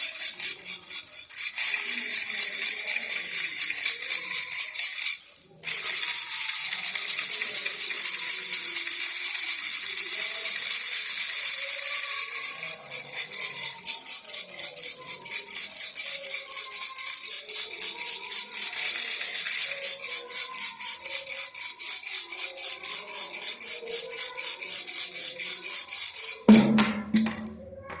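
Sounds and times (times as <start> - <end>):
baby rattle shaken rapidly: 0.0 - 27.5.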